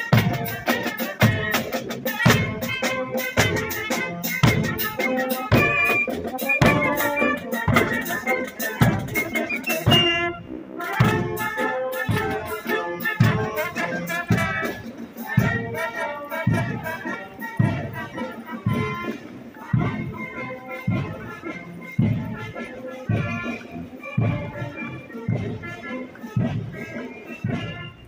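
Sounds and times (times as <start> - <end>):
steady drum beat: 0.0 - 28.0
wind instruments playing: 0.0 - 28.0.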